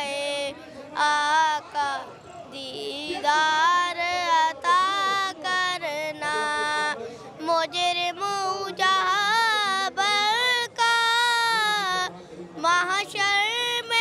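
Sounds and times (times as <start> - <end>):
boy singing unaccompanied: 0.0 - 14.0.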